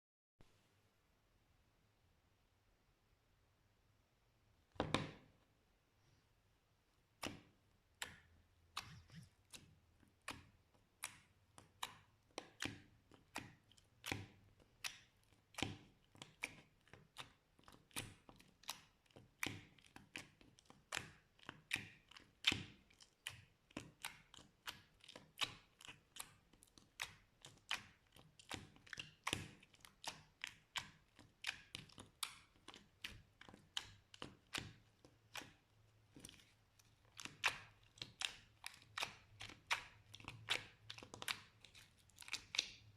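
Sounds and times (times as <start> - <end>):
slime clicking and popping: 7.2 - 42.9.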